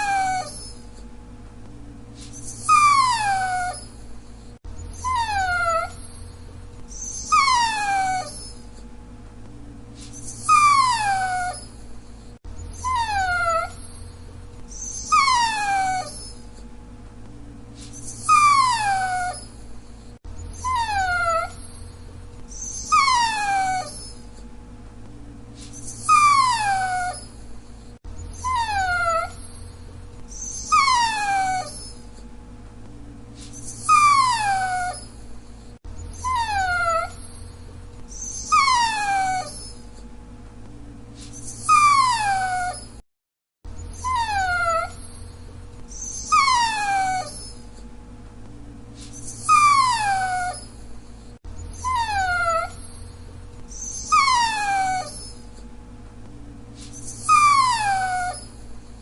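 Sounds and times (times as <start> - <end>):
dog whining: 0.0 - 1.1, 2.2 - 8.9, 10.0 - 16.7, 17.8 - 24.5, 25.6 - 32.3, 33.4 - 40.1, 41.2 - 43.0, 43.7 - 47.9, 49.0 - 55.7, 56.8 - 59.0.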